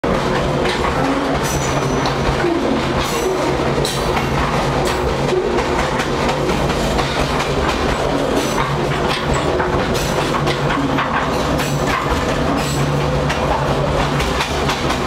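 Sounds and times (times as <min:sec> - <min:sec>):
train car rumble and rattle: 0:00.0 - 0:15.0.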